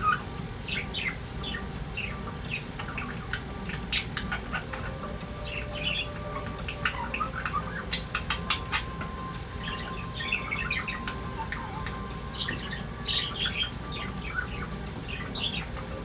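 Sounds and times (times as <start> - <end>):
budgerigars chattering: 0.0 - 16.0
low steady hum: 0.0 - 16.0.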